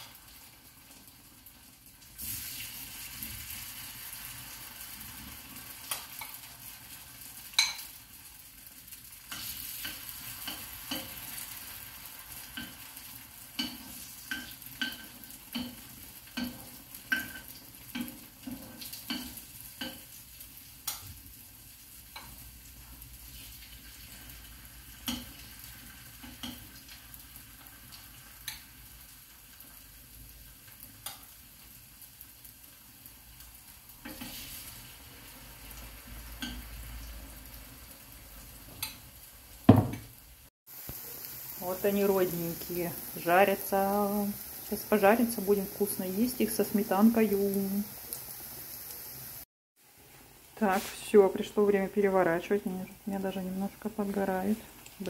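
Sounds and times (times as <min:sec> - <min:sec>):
batter sizzling in hot oil: 0:00.0 - 0:55.0.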